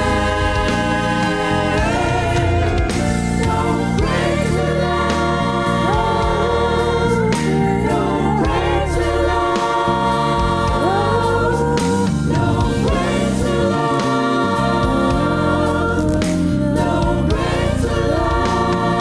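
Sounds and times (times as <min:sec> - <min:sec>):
choir singing: 0:00.0 - 0:19.0
instrumental accompaniment: 0:00.0 - 0:19.0.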